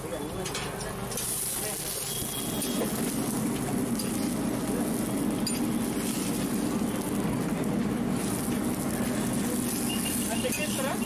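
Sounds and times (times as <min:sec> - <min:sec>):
griddle rumble and hiss: 0:00.0 - 0:11.0.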